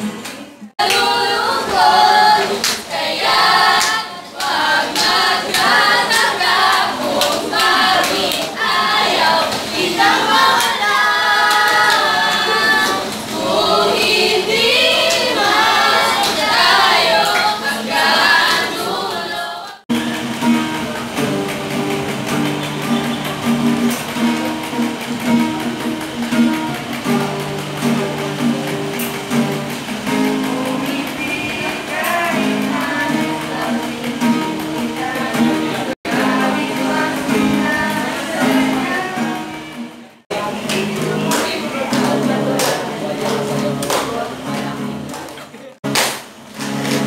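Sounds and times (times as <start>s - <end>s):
young voices singing together: 0.0s - 45.9s
acoustic guitar strumming: 0.0s - 47.0s.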